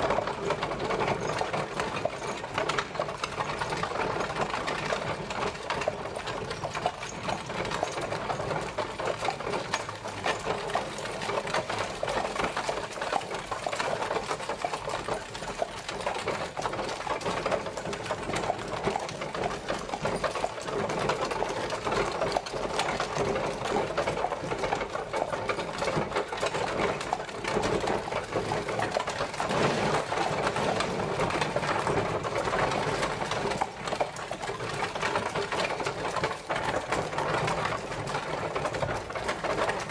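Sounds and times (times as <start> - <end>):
horse-drawn carriage rattling: 0.0 - 39.9.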